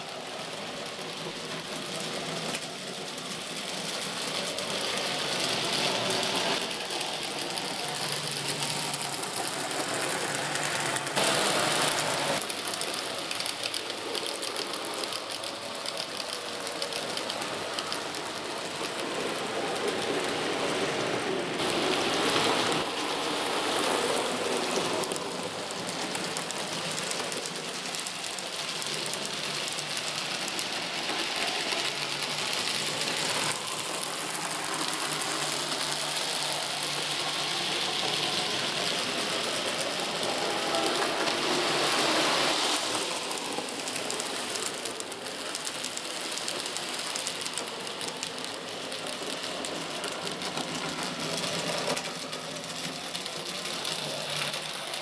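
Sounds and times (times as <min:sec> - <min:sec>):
model train motor whirring: 0:00.0 - 0:55.0
model train wheels clattering: 0:00.0 - 0:55.0.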